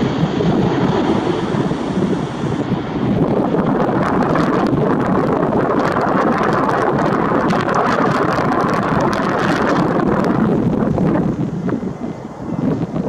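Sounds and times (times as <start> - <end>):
jet airliner climbing: 0.0 - 13.0
wind buffeting microphone: 0.0 - 13.0.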